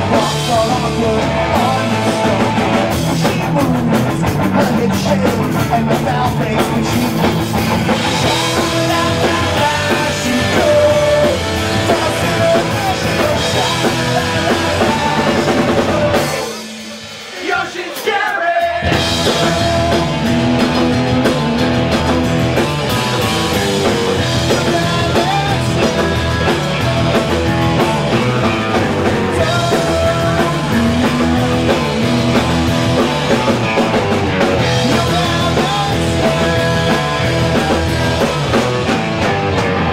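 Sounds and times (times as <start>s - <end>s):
man singing: 0.0s - 34.0s, 34.6s - 38.5s
punk rock band playing: 0.0s - 39.9s.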